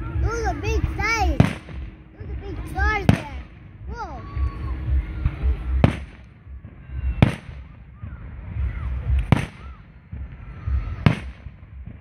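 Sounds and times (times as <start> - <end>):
firework shells booming: 0.0 - 12.0
low rumble of fireworks: 0.0 - 12.0.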